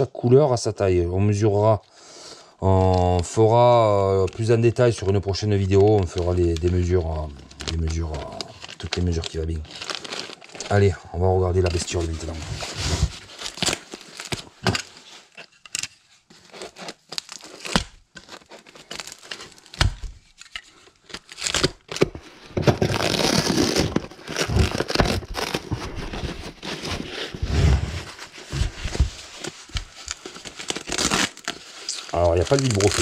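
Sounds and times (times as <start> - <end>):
wrapping crinkling and rustling: 2.4 - 33.0
tape tearing: 5.7 - 10.9, 11.6 - 33.0.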